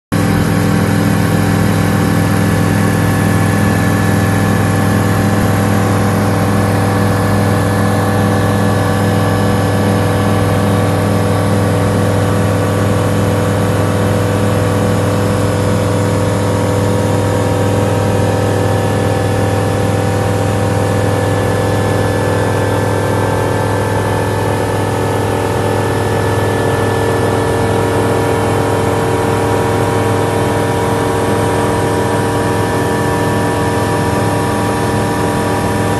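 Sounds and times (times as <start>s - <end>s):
airplane engine and propeller hum: 0.1s - 35.9s.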